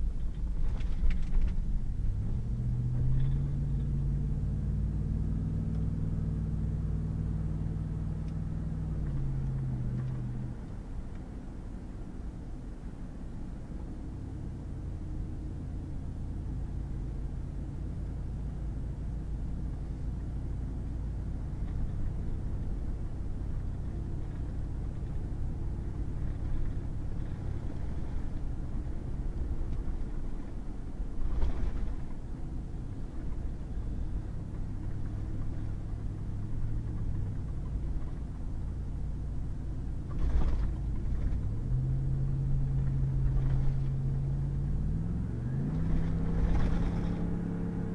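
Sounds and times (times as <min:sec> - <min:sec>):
road rumble: 0:00.0 - 0:47.9
truck engine drone: 0:00.0 - 0:47.9.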